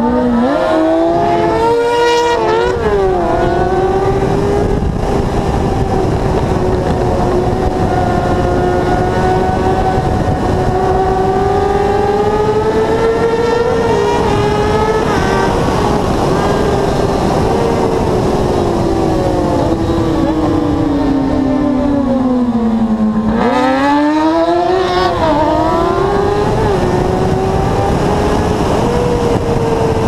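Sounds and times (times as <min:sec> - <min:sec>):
motorcycle engine high revs: 0:00.0 - 0:30.0
wind rushing over microphone: 0:00.0 - 0:30.0.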